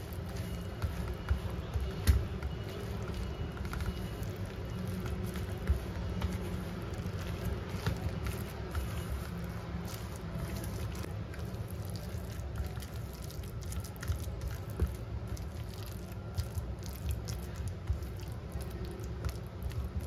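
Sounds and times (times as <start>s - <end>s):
wet mash squishing: 0.0s - 20.0s.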